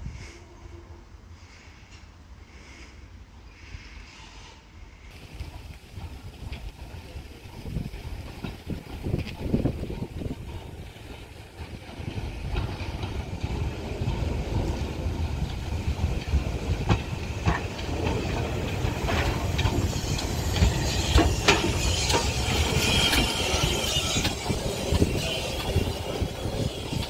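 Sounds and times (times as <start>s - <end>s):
steam locomotive rumbling: 0.0s - 27.0s
steam hissing: 4.2s - 27.0s.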